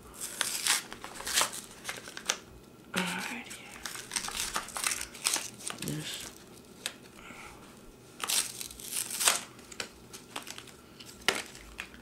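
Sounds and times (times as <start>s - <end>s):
plastic packaging rustling: 0.2s - 2.4s, 3.1s - 7.1s, 8.2s - 12.0s.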